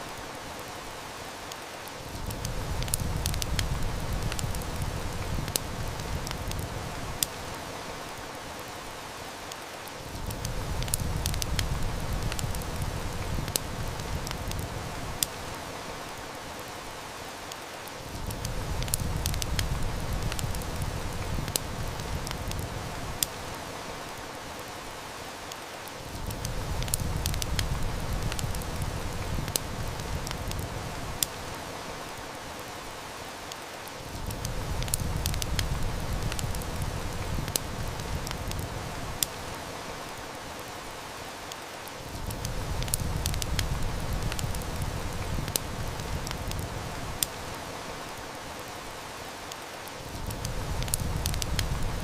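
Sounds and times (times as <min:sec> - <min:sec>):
heavy rain hissing: 0:00.0 - 0:52.0
wood fire crackling: 0:00.0 - 0:52.0.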